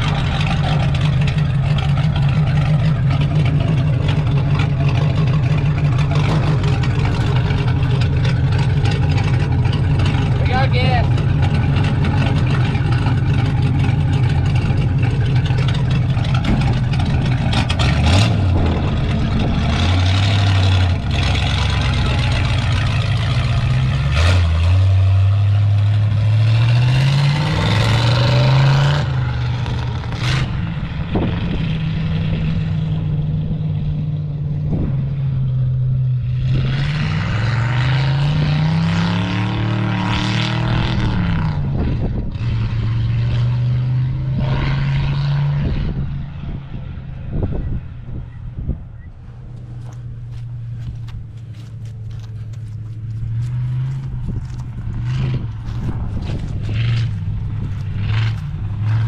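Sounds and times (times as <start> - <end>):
vehicle engine shifting gears: 0.0 - 59.0.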